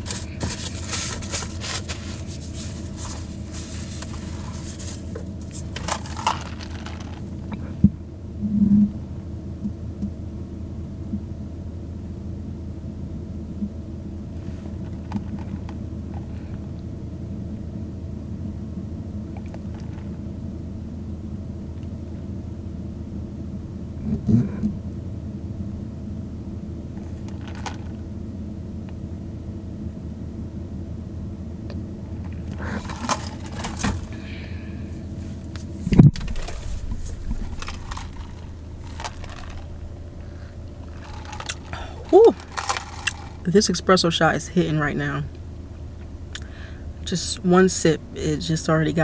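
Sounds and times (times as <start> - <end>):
car engine hum in cabin: 0.0 - 49.0.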